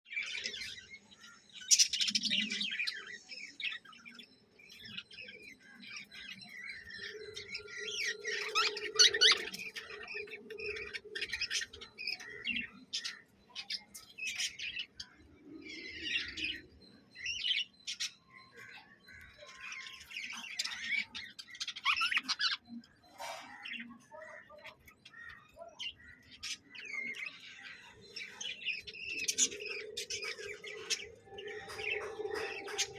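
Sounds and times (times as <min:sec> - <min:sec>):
lovebirds chattering and squawking: 0:00.1 - 0:32.9.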